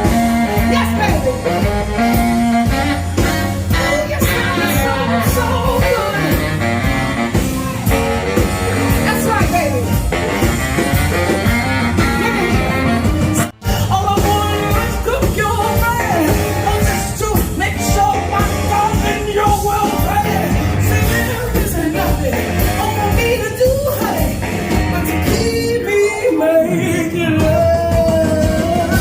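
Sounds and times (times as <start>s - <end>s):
rock and roll band playing: 0.0s - 29.0s.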